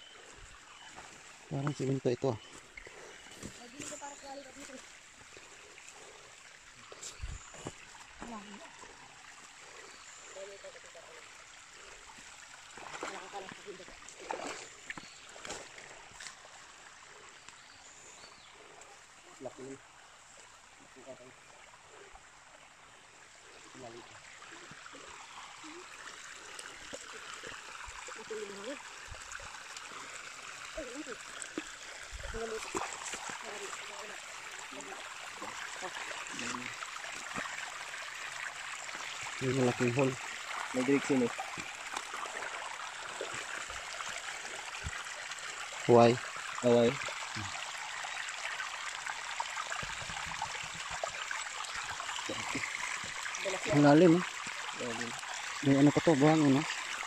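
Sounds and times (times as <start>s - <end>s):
creek water running over rock: 0.0s - 57.0s.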